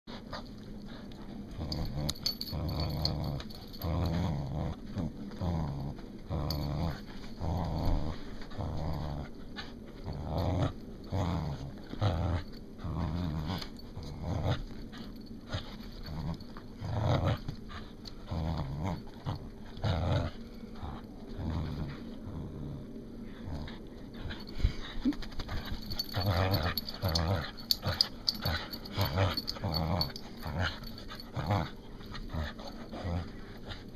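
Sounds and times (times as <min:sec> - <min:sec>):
dog growling in play: 0:00.2 - 0:33.9.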